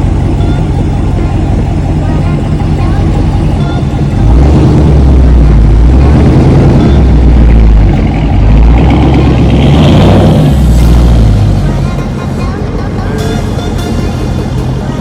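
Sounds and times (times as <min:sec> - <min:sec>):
car engine rumbling under throttle: 0:00.0 - 0:15.0.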